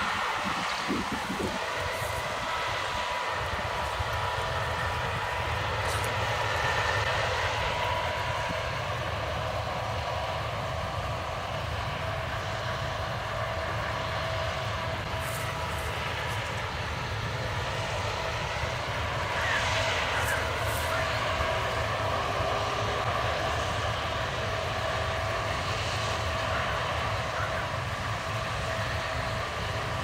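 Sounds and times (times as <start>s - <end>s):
combine harvester droning: 0.0s - 30.0s
constant whining tones: 0.0s - 30.0s.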